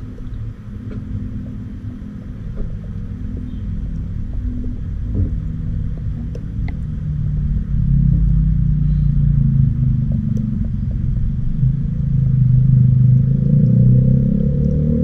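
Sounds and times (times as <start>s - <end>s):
loud low rumble: 0.0s - 15.0s
low droning tones: 0.0s - 15.0s.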